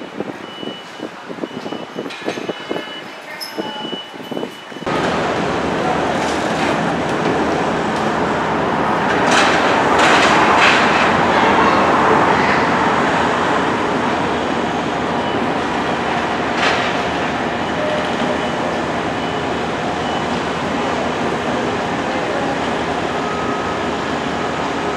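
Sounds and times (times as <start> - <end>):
train rattling on track: 0.0 - 24.9.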